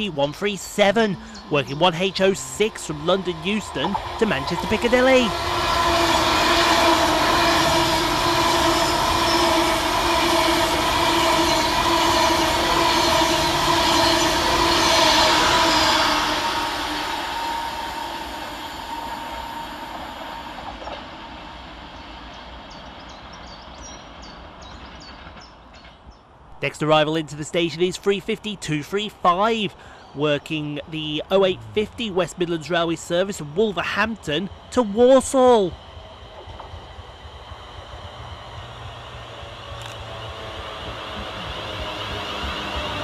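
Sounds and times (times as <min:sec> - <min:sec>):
electric train passing: 0:00.0 - 0:43.0
train whine: 0:00.0 - 0:43.0.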